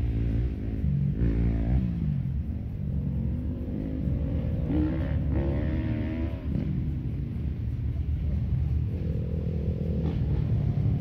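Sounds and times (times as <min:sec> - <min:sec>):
higher engine tone: 0:00.0 - 0:11.0
vehicle engine low rumble: 0:00.0 - 0:11.0.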